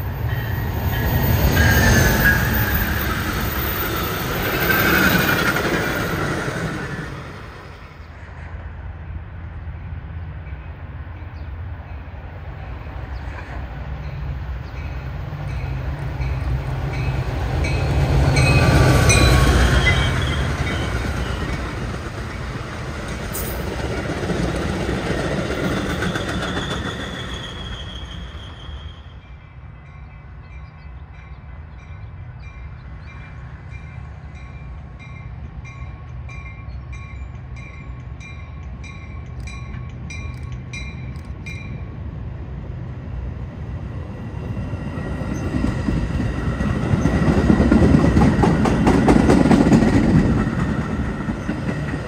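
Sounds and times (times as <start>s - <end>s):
diesel train rumble: 0.0s - 52.0s
passenger train passing: 0.0s - 52.0s.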